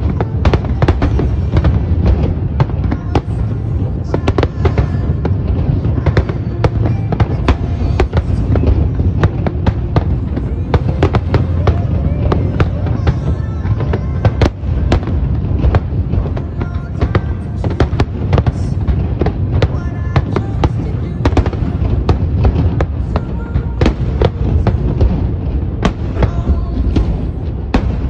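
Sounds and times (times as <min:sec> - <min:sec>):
continuous low rumble: 0:00.0 - 0:28.0
firework bursts and crackling bangs: 0:00.0 - 0:28.0.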